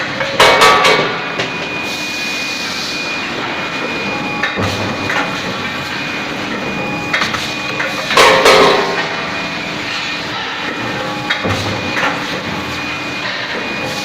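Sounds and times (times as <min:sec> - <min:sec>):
forging machine running: 0:00.0 - 0:14.0.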